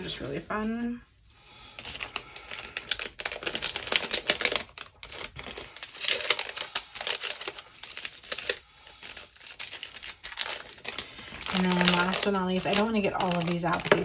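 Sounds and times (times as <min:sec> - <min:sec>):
cellophane packaging crinkling: 0:01.6 - 0:14.0.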